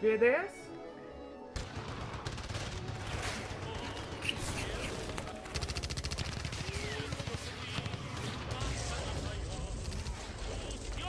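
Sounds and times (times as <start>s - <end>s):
gunfire volleys: 1.6s - 11.0s.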